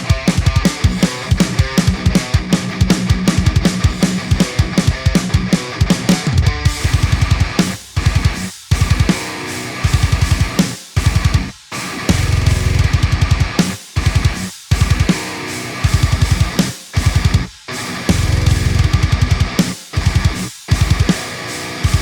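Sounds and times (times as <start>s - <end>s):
distorted electric guitar riff: 0.0s - 22.0s
drums with rapid kick drum: 0.0s - 22.0s.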